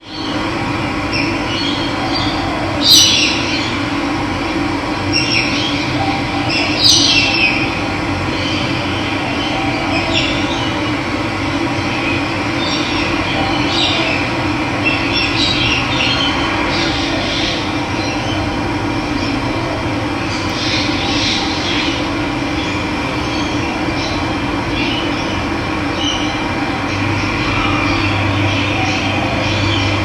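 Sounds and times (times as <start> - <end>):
birds chirping: 0.0 - 4.0, 5.0 - 19.6, 20.2 - 30.0.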